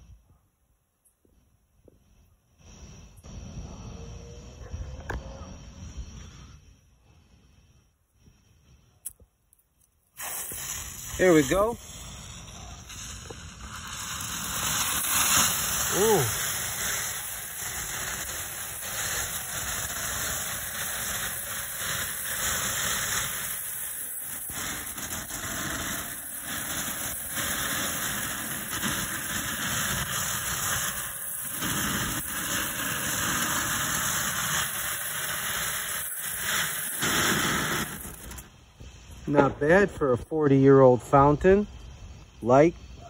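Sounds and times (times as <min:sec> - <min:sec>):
fountain firework hissing sparks: 0:01.4 - 0:43.0.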